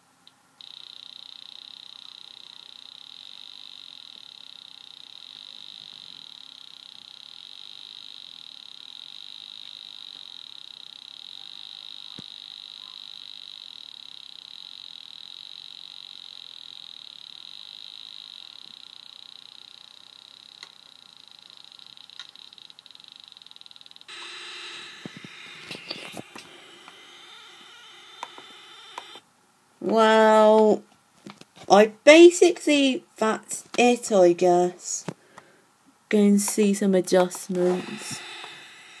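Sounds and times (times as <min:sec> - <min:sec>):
steady high-pitched whine: 0:00.0 - 0:29.3, 0:37.0 - 0:39.0.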